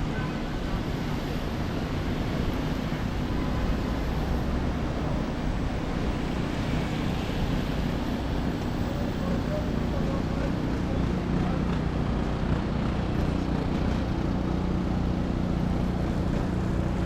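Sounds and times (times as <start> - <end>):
passing traffic: 0.0 - 17.0.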